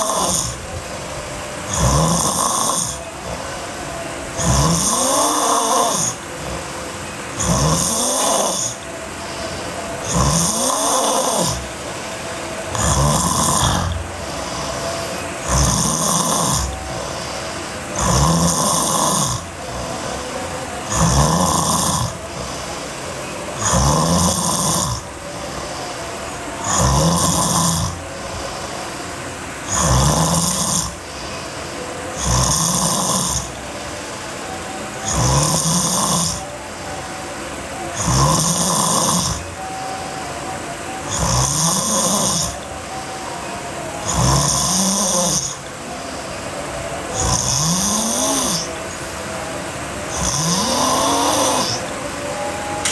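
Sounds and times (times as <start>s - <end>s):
girl snoring heavily: 0.0s - 36.9s, 37.8s - 40.1s, 41.0s - 52.9s.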